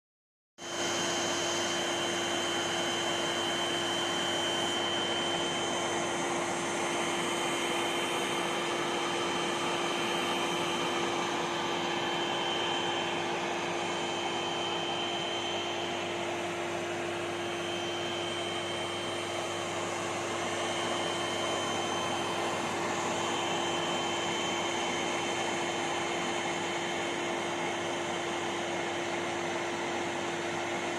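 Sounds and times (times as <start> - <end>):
vacuum cleaner running: 0.6 - 30.9.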